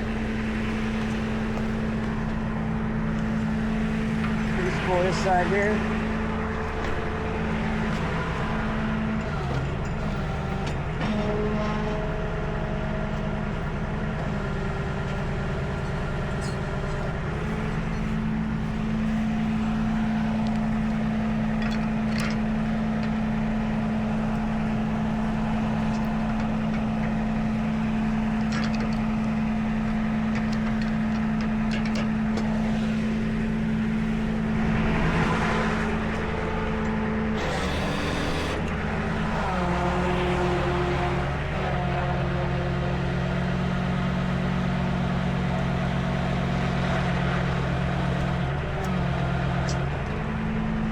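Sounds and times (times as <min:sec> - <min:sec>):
truck engine running under load: 0:00.0 - 0:50.9.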